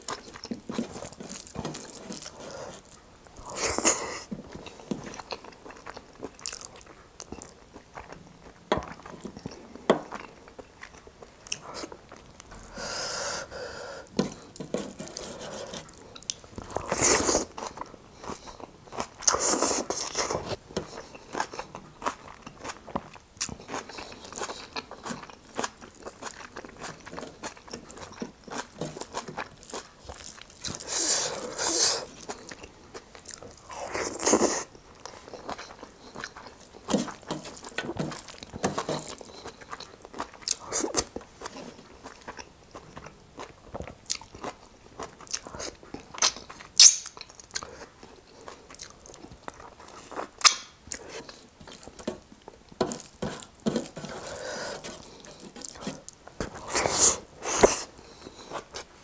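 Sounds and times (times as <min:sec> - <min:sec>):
wet chewing: 0:00.0 - 0:12.8, 0:14.0 - 0:58.9.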